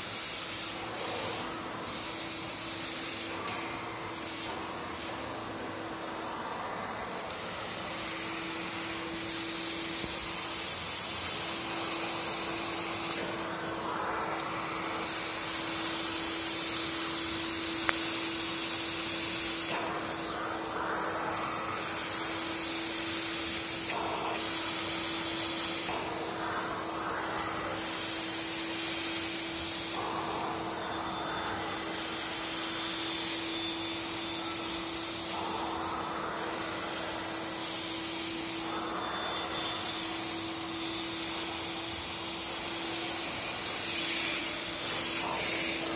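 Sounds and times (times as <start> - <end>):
vacuum cleaner on stairs: 0.0 - 45.9.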